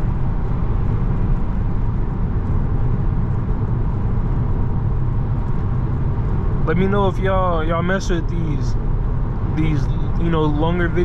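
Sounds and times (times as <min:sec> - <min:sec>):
car road and engine drone: 0:00.0 - 0:11.0.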